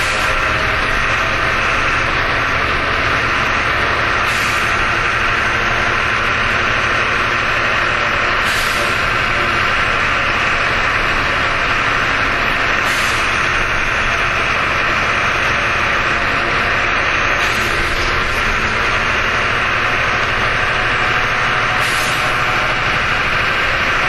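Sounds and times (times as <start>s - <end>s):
bus engine hum: 0.0s - 24.0s.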